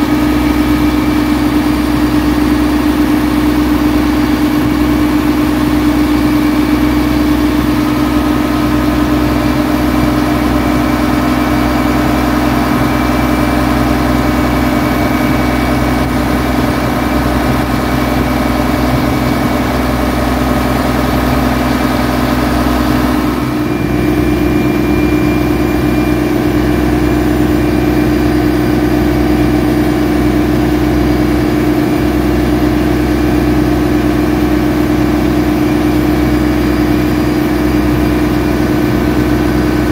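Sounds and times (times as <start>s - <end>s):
boat engine running: 0.0s - 39.9s
water washing along hull: 0.0s - 39.9s.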